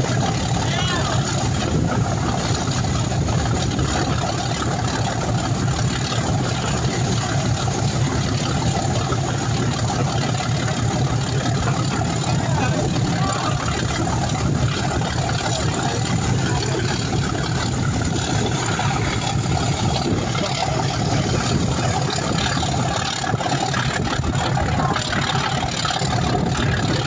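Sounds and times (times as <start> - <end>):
diesel locomotive engine under load: 0.0 - 27.0
moving train running noise: 0.0 - 27.0.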